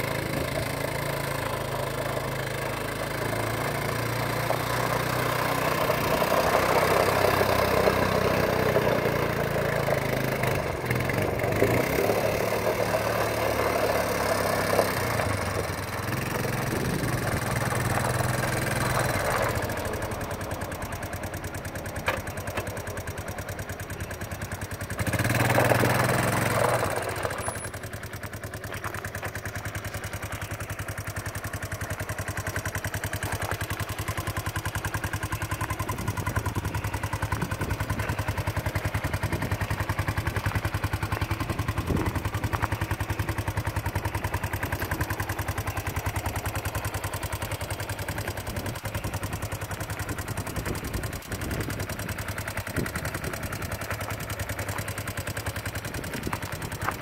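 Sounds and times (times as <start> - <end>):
atv engine idling: 0.0 - 57.0.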